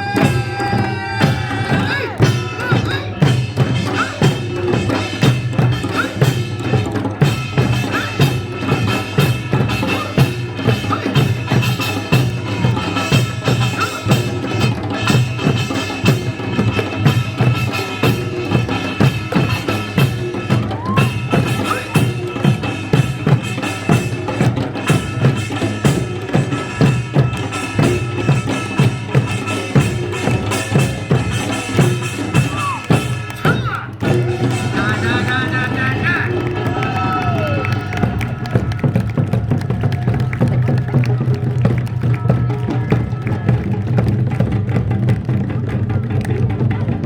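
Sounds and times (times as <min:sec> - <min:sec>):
folk music with drums: 0:00.0 - 0:47.0.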